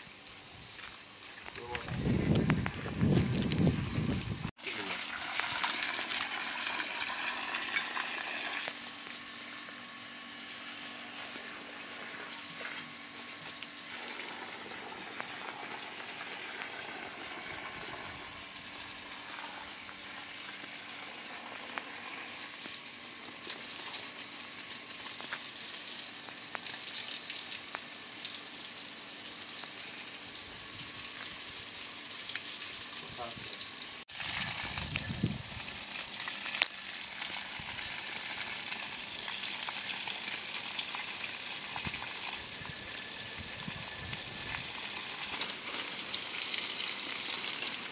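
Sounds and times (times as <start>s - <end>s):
garden hose spraying water: 0.0s - 47.9s.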